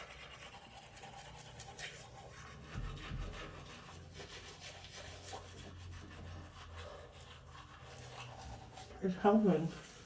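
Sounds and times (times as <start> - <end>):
toothbrush scrubbing teeth: 0.0 - 10.0.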